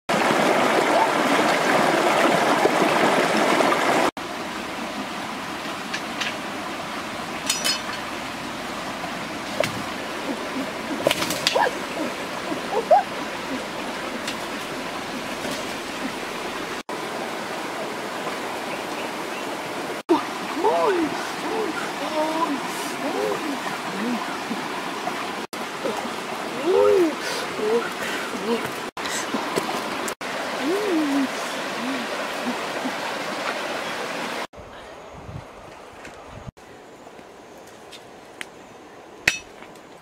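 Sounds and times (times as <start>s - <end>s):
water rushing: 0.1s - 34.5s.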